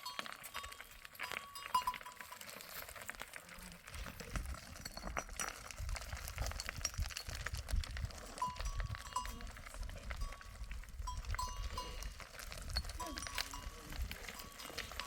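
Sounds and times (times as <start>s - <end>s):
livestock bell clinking: 0.0s - 3.2s, 3.9s - 15.0s.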